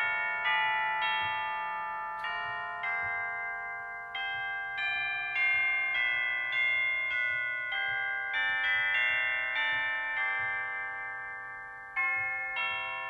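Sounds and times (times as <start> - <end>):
ringing bell-like notes: 0.0 - 13.0.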